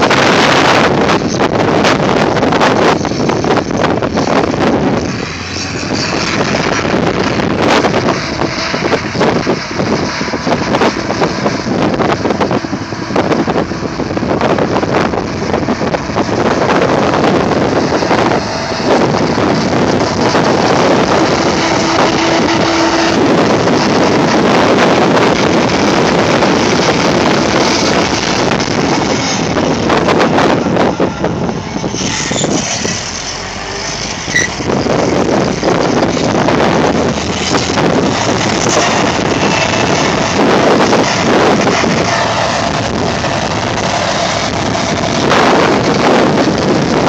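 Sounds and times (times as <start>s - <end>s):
combine harvester running: 0.0s - 47.0s.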